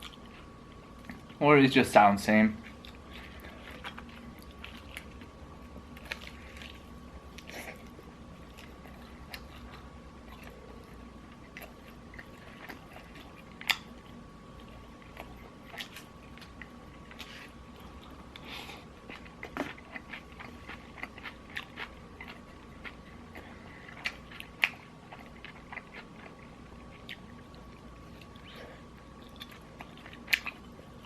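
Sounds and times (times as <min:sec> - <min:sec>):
chewing crispy fried chicken: 0:00.0 - 0:01.4, 0:02.3 - 0:31.0
faint steady hum: 0:00.0 - 0:31.0.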